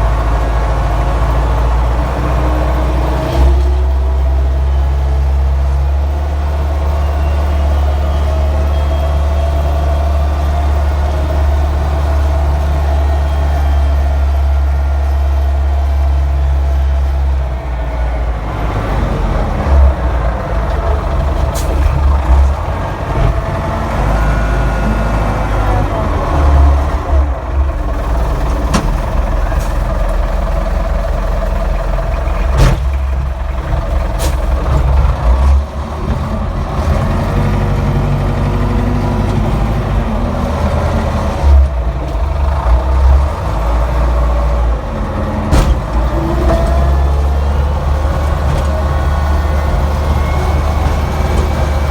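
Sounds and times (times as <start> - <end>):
wheel loader diesel engine: 0.0 - 51.9.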